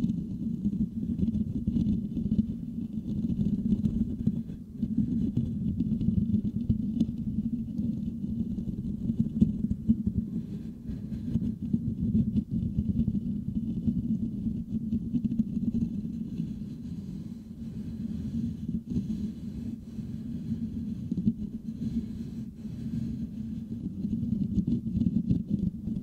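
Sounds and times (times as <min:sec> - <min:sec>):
fingertips scratching microphone grille: 0:00.0 - 0:26.0.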